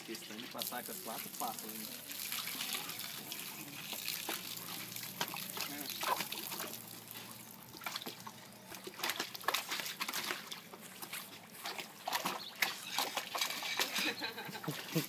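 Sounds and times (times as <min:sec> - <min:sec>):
water splashing in plastic tub: 0:00.0 - 0:15.0.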